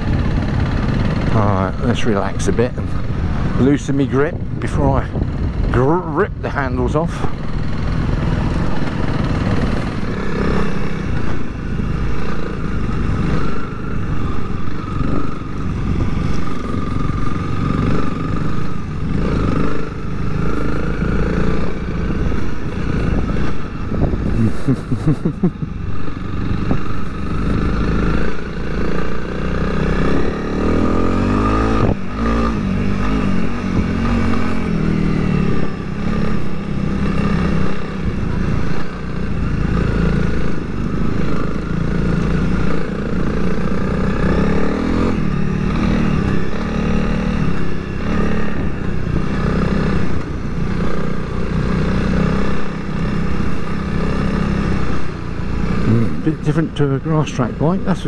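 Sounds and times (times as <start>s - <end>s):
trail bike engine revving: 0.0s - 58.0s.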